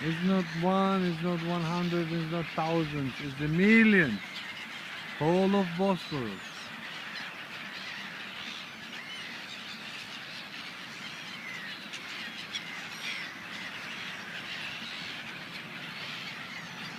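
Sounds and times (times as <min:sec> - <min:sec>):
flock of gulls calling: 0:00.0 - 0:16.9.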